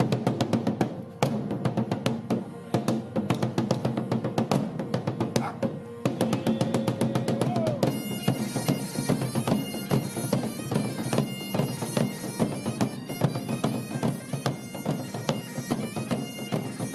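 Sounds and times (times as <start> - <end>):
instrumental music with drum beat: 0.0 - 16.9.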